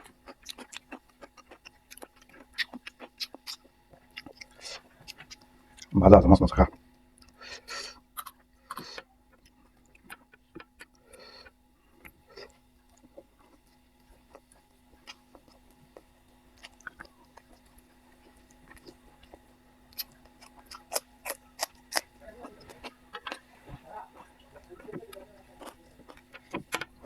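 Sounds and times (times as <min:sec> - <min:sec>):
quiet chewing: 0:00.0 - 0:27.0
steady low hum: 0:00.0 - 0:27.0.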